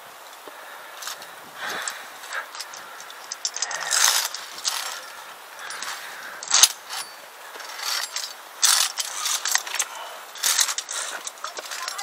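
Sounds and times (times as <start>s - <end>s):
carabiners clinking on steel cable: 1.0s - 12.0s.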